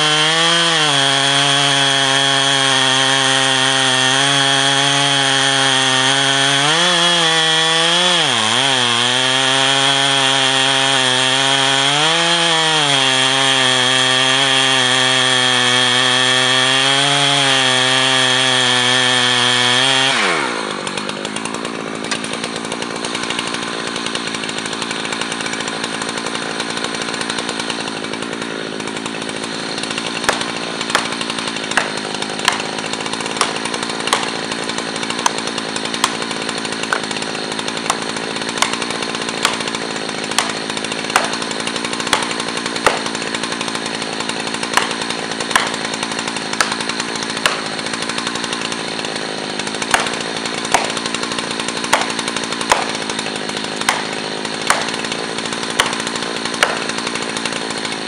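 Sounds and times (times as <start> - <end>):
axe pounding wedges: 0.0 - 24.6, 25.2 - 58.0
chainsaw idling: 0.0 - 58.0.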